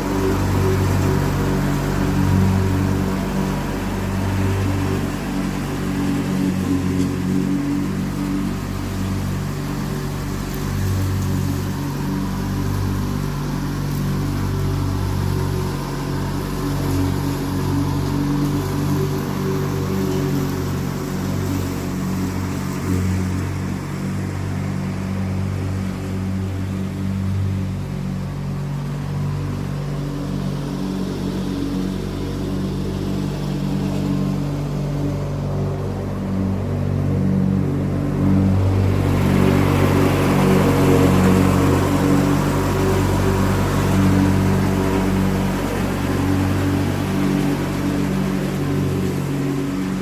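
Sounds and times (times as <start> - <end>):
lawn tractor engine running: 0.0 - 50.0.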